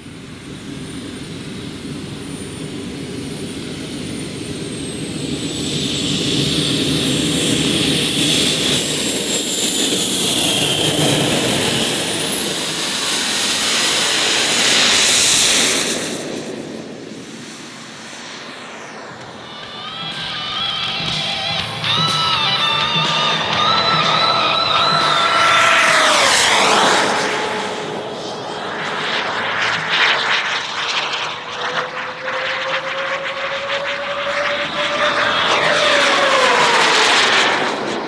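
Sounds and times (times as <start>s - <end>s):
jet turbine whining: 0.0s - 38.0s.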